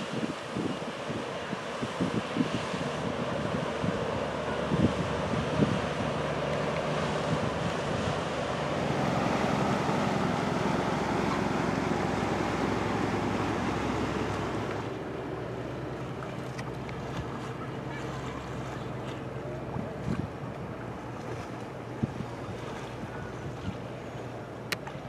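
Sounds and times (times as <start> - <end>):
wind buffeting microphone: 0.0 - 24.9
boat engine hum: 0.0 - 25.0.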